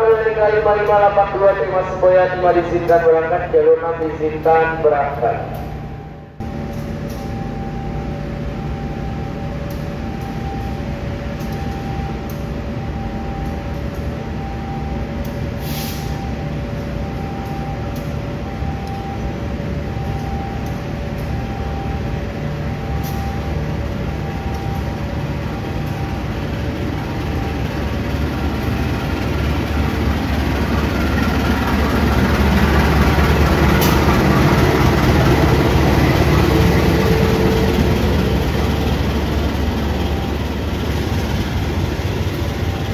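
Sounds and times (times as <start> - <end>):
diesel locomotive engine rumble: 0.0 - 42.9.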